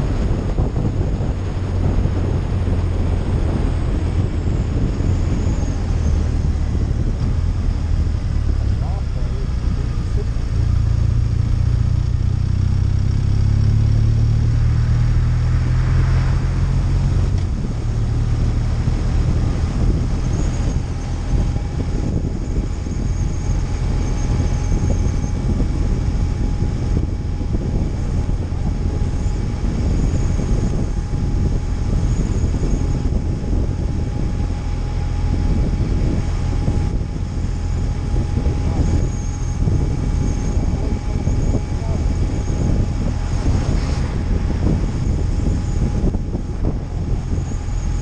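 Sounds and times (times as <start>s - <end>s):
motorcycle engine: 0.0s - 48.0s
road noise: 0.0s - 48.0s
wind rush: 0.0s - 48.0s.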